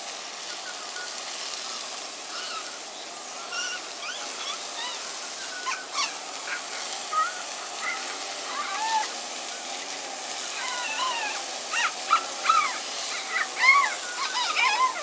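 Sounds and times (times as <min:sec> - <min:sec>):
background hiss: 0:00.0 - 0:15.0
otters chirping and squeaking: 0:01.5 - 0:09.1, 0:10.5 - 0:15.0.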